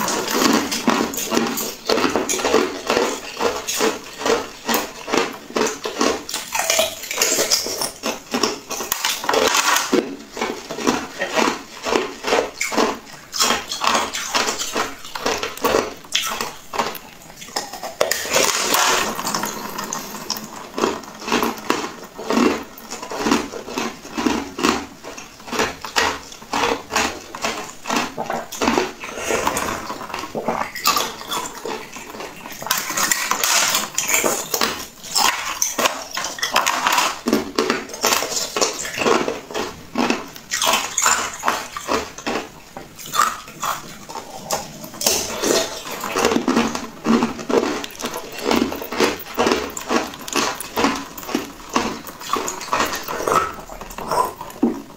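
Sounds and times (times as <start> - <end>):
chewing jelly with mouth smacks: 0.0 - 54.9.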